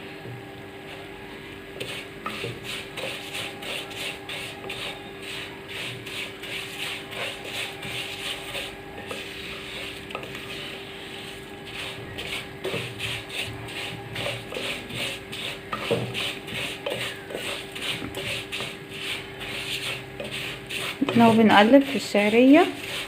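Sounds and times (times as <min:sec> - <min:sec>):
light sizzle: 0:00.0 - 0:23.0
spoon scraping pot: 0:01.8 - 0:23.0.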